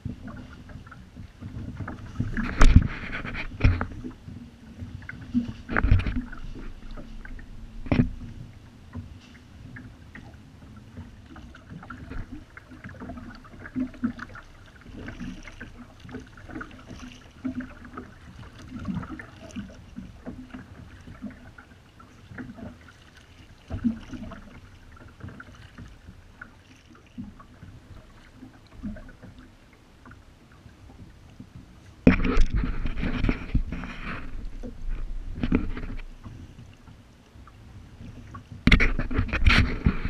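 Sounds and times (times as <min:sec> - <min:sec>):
kayak paddle dipping into water: 0:00.0 - 0:40.0
water splashes and drips: 0:00.0 - 0:40.0.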